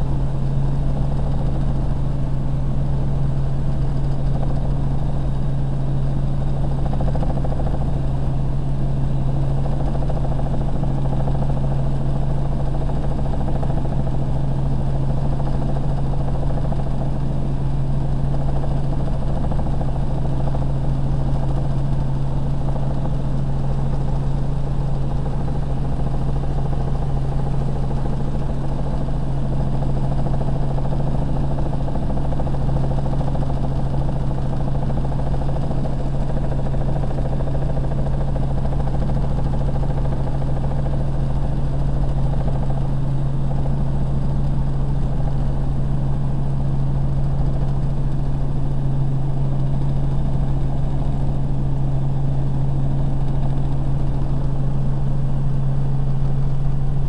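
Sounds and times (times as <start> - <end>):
helicopter drone inside cabin: 0.0 - 57.0.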